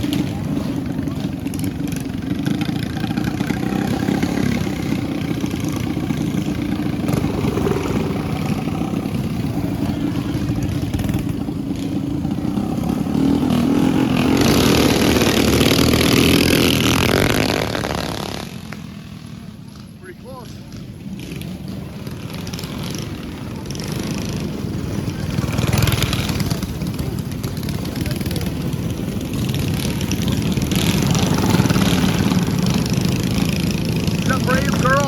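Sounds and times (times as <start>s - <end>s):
mini bike engines revving: 0.0s - 35.0s.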